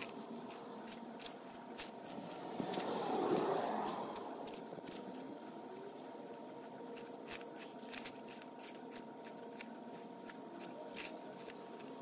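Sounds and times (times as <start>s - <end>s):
tortoise crunching lettuce: 0.0s - 12.0s.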